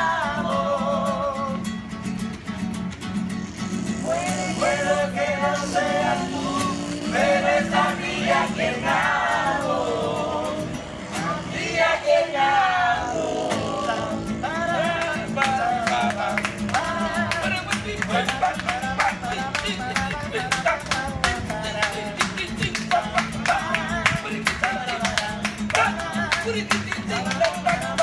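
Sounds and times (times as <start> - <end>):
group singing: 0.0 - 1.8, 3.8 - 28.0
strummed acoustic guitar: 0.0 - 28.0.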